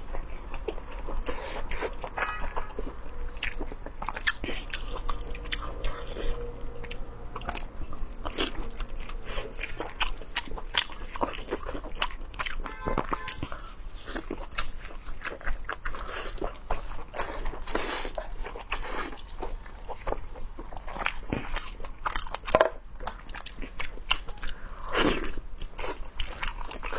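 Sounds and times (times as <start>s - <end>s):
person chewing crunchy food: 0.0s - 26.9s.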